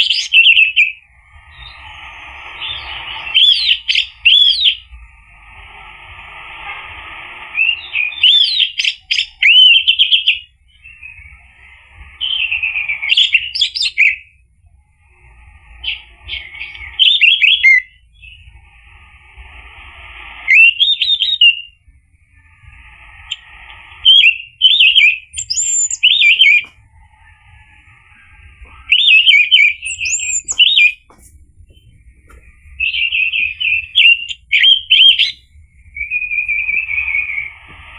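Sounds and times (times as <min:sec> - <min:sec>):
thrush singing whistled notes: 0:00.0 - 0:05.0, 0:07.2 - 0:37.9.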